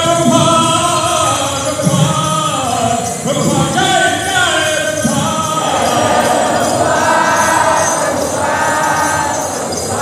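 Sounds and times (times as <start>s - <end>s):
bells ringing: 0.0s - 10.0s
voices singing a chant: 0.0s - 10.0s.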